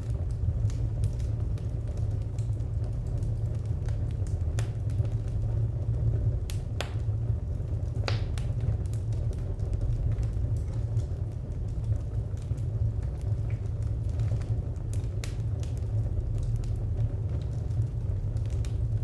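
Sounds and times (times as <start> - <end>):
low rumble of burning: 0.0 - 19.0
wood fire crackling: 0.0 - 19.0.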